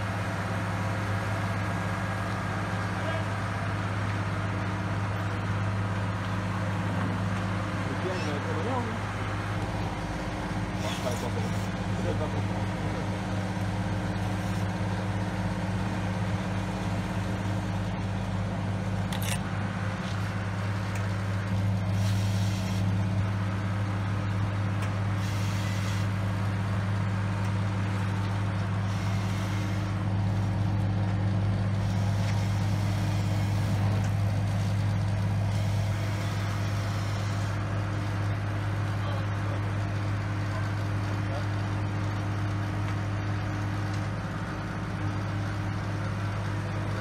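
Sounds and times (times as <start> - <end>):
engine running at low revs: 0.0 - 47.0.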